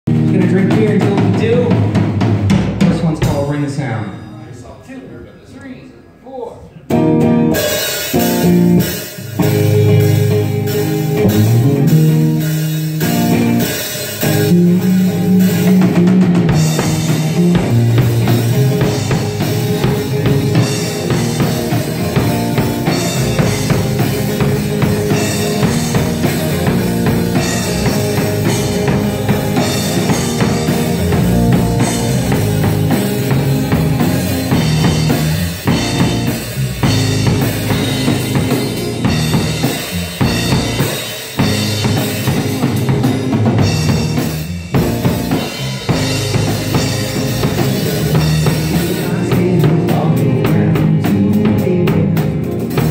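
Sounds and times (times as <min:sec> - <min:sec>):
drum kit beat: 0:00.1 - 0:04.8, 0:06.8 - 0:52.9
rock band playing loud: 0:00.1 - 0:04.8, 0:06.8 - 0:52.9
electric guitars: 0:06.8 - 0:52.9.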